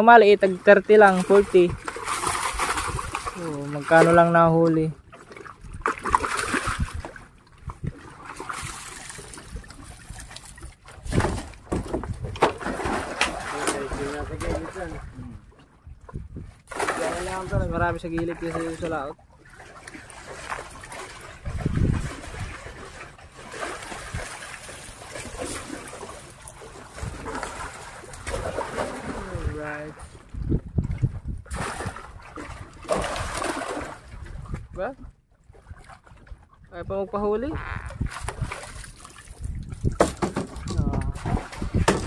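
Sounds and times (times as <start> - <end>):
water splashing and trickling: 0.0 - 42.0.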